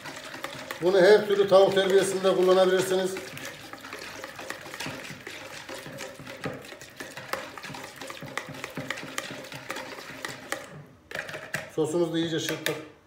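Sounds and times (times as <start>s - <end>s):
whisking thick marinade in bowl: 0.0s - 11.8s.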